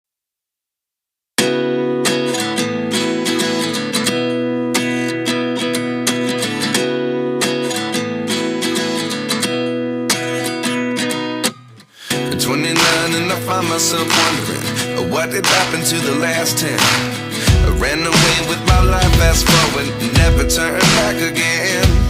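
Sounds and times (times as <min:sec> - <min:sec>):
acoustic guitar strumming chords: 0:01.4 - 0:22.0.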